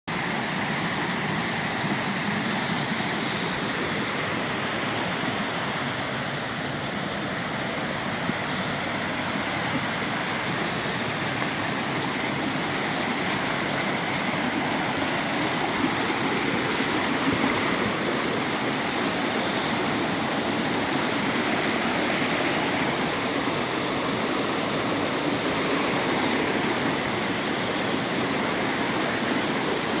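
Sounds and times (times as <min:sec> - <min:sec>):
running water: 0:00.1 - 0:30.0.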